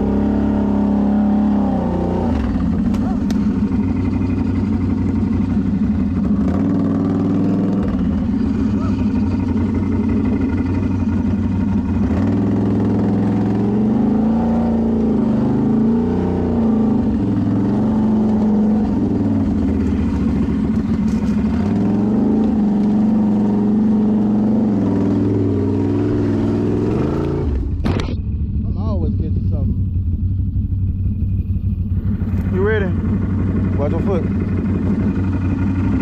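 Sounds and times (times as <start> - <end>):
quad engine revving: 0.0 - 29.8, 31.9 - 36.0.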